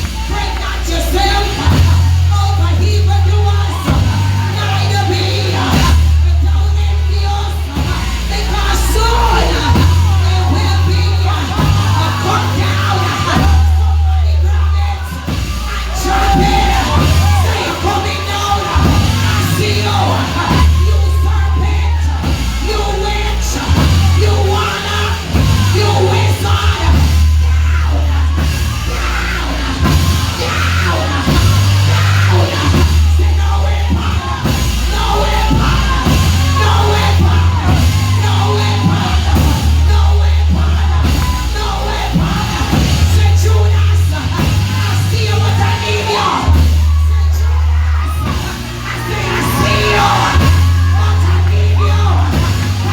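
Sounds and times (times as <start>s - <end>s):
loud gospel music with heavy bass: 0.0s - 52.9s
voices singing and shouting: 0.0s - 52.9s.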